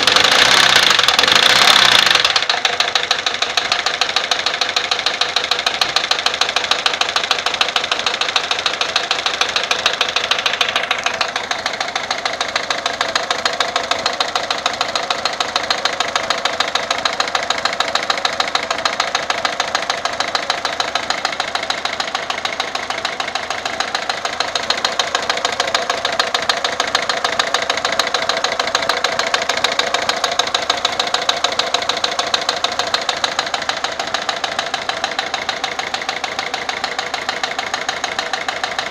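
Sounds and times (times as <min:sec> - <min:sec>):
diesel engine idling: 0:00.0 - 0:38.9
engine knocking clatter: 0:00.0 - 0:38.9.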